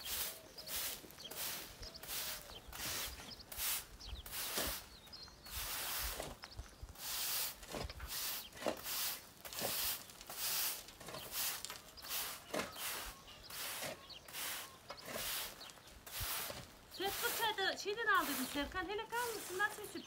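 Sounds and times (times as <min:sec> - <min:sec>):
push broom sweeping dirt: 0:00.0 - 0:20.0.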